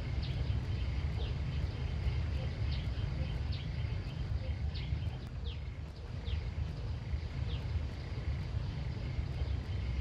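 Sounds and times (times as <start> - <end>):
bird chirps: 0.0 - 10.0
steady low rumble: 0.0 - 10.0.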